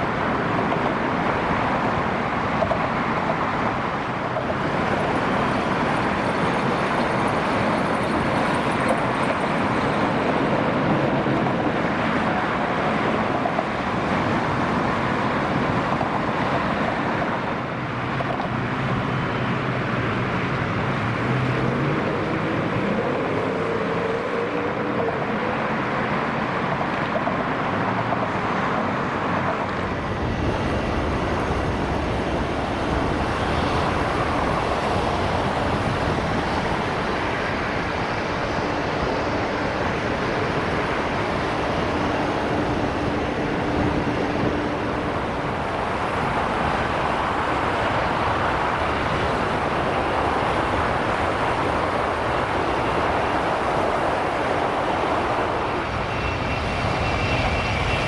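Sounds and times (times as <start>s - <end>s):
jet engines landing rush: 0.0s - 58.0s.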